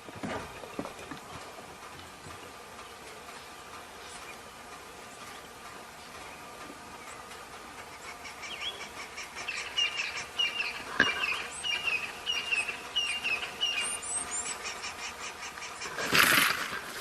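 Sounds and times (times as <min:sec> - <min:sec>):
bird chirping: 0:00.4 - 0:16.4.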